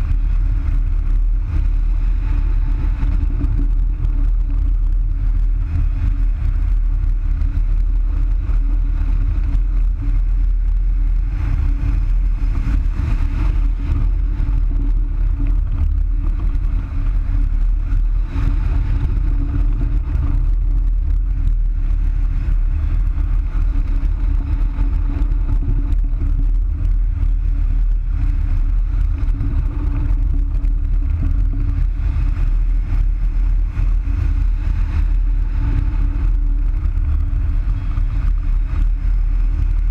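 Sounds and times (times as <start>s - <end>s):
faint low hum: 0.0s - 39.9s
wind buffeting microphone: 0.0s - 39.9s.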